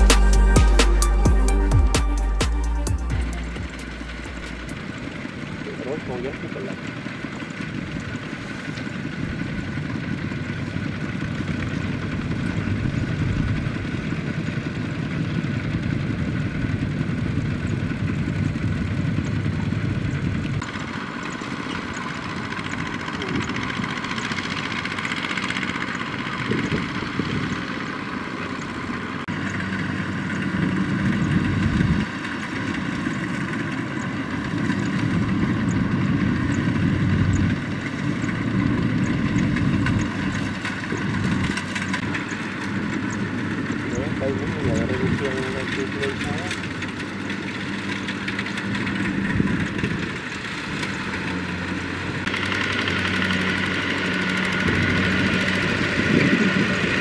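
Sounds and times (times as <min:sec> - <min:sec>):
diesel tractor engines running: 0:00.0 - 0:57.0.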